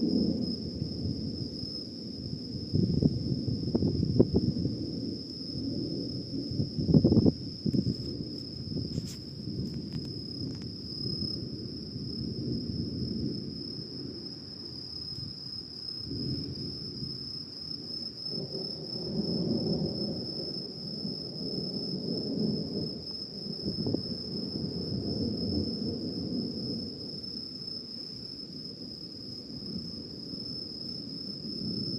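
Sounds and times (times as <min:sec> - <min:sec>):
crickets trilling: 0:00.0 - 0:31.9.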